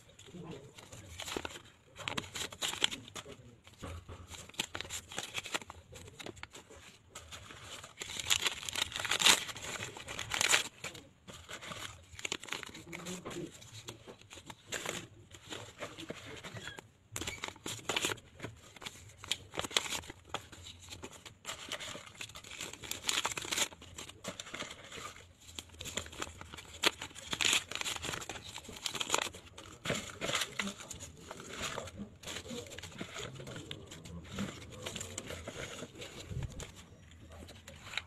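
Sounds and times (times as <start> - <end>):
paper envelopes and banknotes rustling: 0.0 - 38.0.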